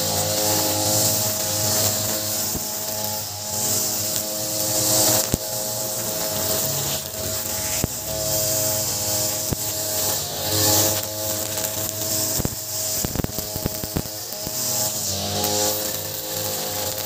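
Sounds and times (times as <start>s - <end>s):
brush cutter engine running: 0.0s - 17.0s
trimmer line striking concrete: 0.0s - 17.0s.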